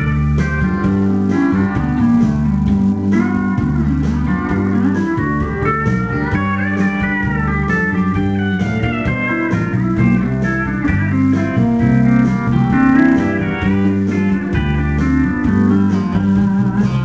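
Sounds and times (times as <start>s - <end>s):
bass guitar: 0.0s - 17.0s
electric guitar: 0.0s - 17.0s
pedal steel guitar sliding notes: 0.0s - 17.0s.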